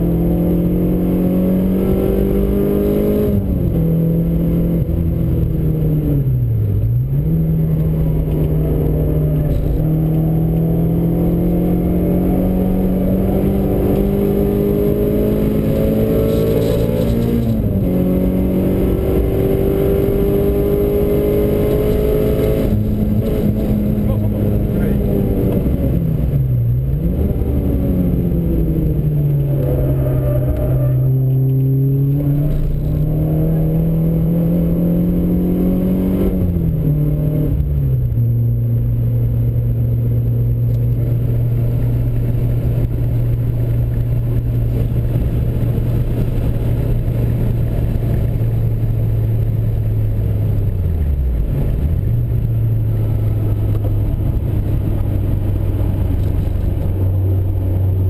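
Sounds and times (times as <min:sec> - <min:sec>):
car engine while driving: 0:00.0 - 0:58.0
road and wind noise: 0:00.0 - 0:58.0.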